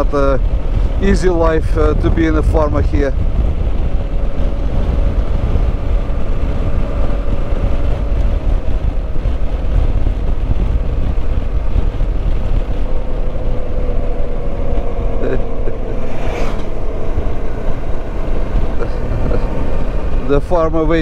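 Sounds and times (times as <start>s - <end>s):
motorcycle engine cruising: 0.0s - 21.0s
wind rumble on microphone: 0.0s - 21.0s.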